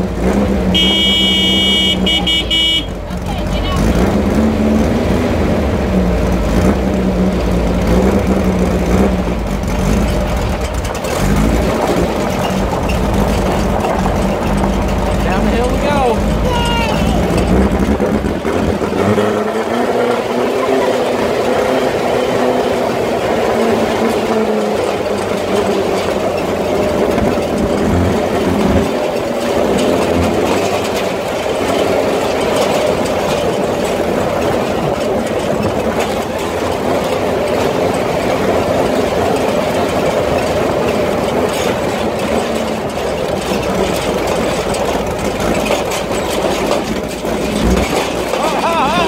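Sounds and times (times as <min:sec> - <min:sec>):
buggy engine running: 0:00.0 - 0:49.0.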